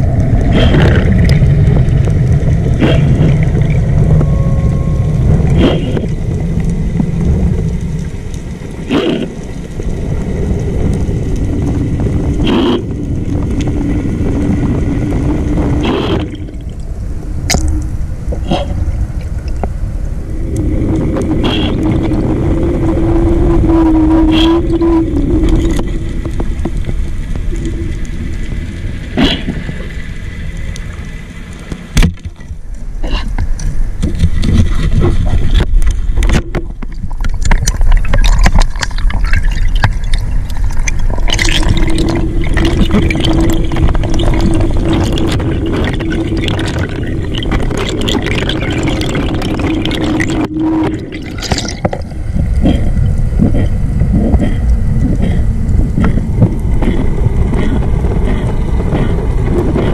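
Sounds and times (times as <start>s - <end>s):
steady low hum: 0.0s - 59.9s
underwater rushing water: 0.0s - 59.9s.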